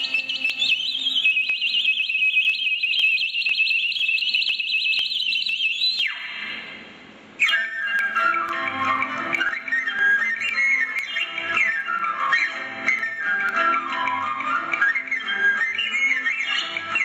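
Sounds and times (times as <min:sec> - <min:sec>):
high flute with warbling trills: 0:00.0 - 0:06.8, 0:07.4 - 0:17.0.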